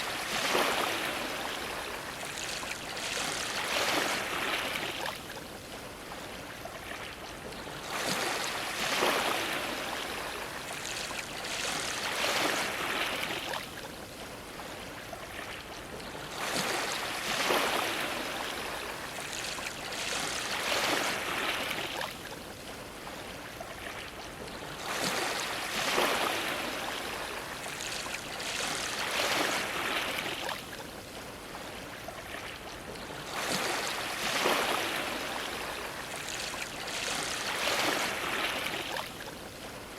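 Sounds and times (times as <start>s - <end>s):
waves splashing against a dock: 0.0s - 39.9s.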